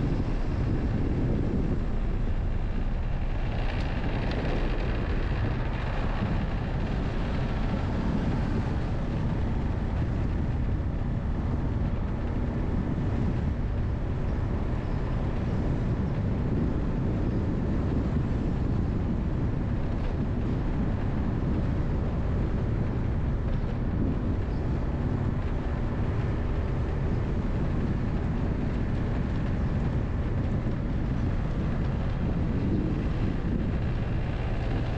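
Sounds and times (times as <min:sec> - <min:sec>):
vehicle road noise: 0:00.0 - 0:34.9
wind rushing over microphone: 0:00.0 - 0:34.9.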